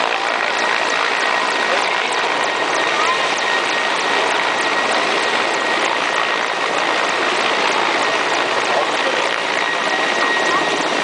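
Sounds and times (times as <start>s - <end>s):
helicopter rotors and turbines: 0.0s - 11.0s
thin steady whine: 0.0s - 11.0s.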